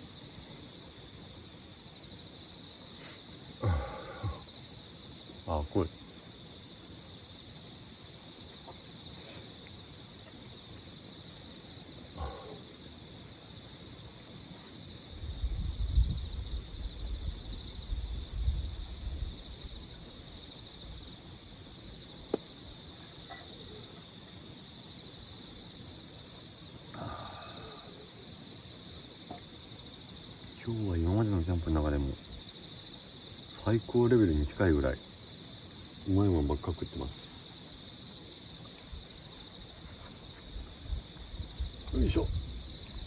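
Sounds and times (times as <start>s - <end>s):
crickets trilling: 0.0s - 43.0s
insect chirping in slow pulse: 0.0s - 43.0s.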